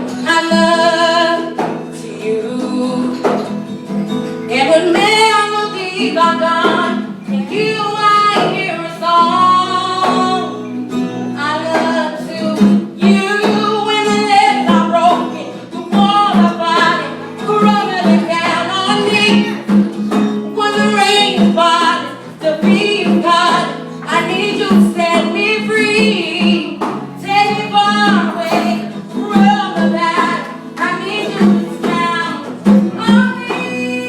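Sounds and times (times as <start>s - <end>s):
instrumental accompaniment: 0.0s - 34.0s
woman singing: 0.0s - 34.0s.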